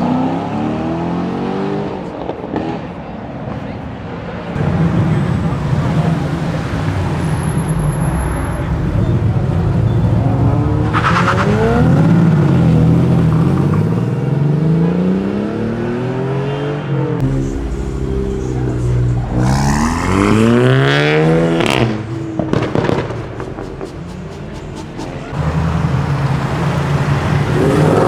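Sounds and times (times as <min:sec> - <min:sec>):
car engine revving: 0:04.6 - 0:16.5, 0:17.1 - 0:28.0.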